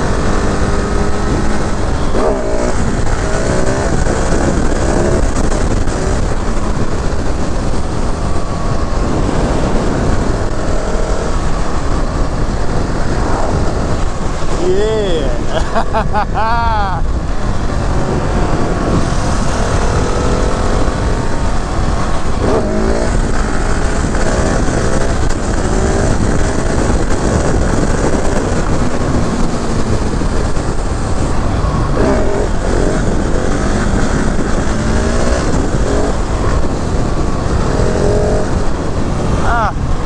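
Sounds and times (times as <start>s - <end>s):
motorcycle engine revving: 0.0s - 40.0s
wind rumble on microphone: 0.0s - 40.0s.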